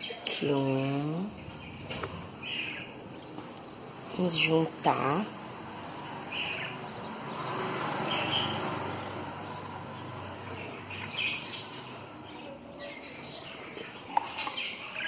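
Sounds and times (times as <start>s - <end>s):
budgerigars chirping: 1.3s - 15.0s.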